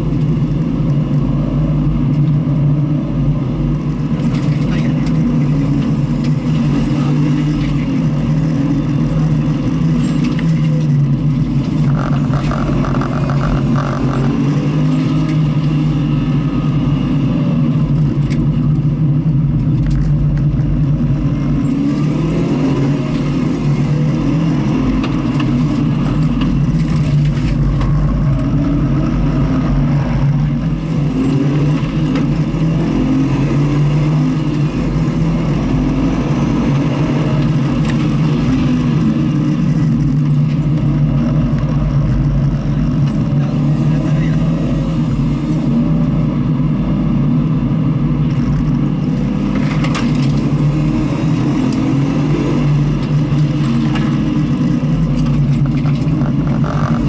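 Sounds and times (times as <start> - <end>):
car engine drone: 0.0 - 57.0.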